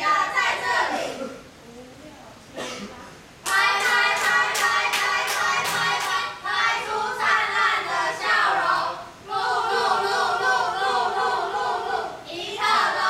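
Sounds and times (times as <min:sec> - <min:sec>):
young voices singing a cheer: 0:00.0 - 0:01.2, 0:03.4 - 0:13.0.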